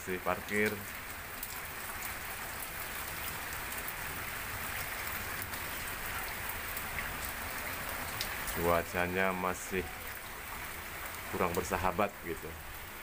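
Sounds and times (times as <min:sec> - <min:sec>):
raindrops pattering on boat: 0:00.0 - 0:13.0.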